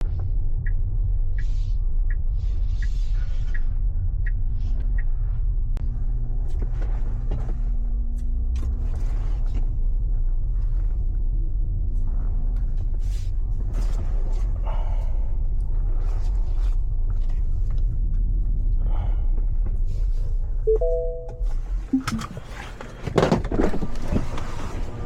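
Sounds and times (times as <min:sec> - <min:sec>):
steady low rumble: 0:00.0 - 0:23.1.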